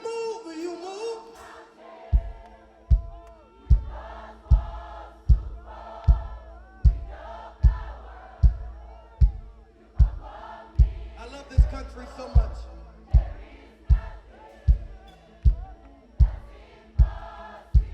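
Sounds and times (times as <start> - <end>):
choir singing gospel: 0.0 - 17.9
heavy beat: 2.2 - 17.9.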